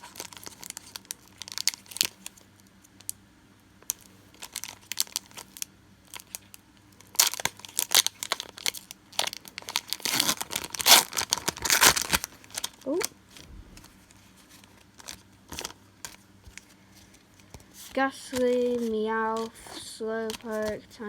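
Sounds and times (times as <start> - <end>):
foil wrapper crinkling and tearing: 0.0 - 2.4, 3.9 - 13.1, 14.4 - 20.8.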